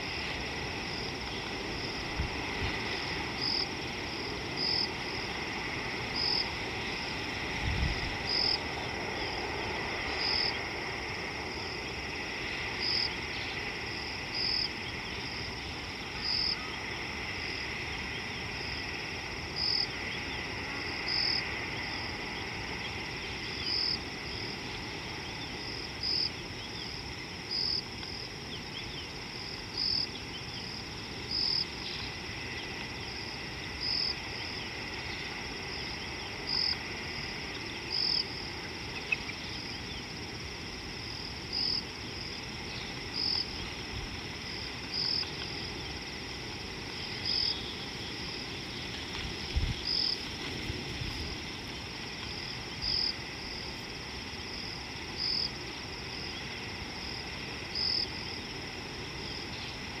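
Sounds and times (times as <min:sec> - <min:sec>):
faint insect chorus: 0:00.0 - 1:00.0
insect chirp: 0:00.0 - 1:00.0
insect high-pitched buzz: 0:00.0 - 1:00.0.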